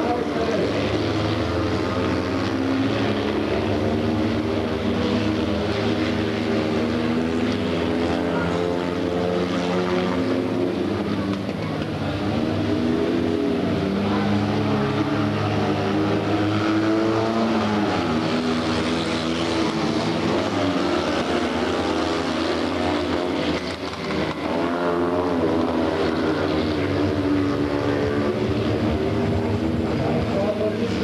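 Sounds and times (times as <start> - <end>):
small race car engines buzzing: 0.0 - 31.0.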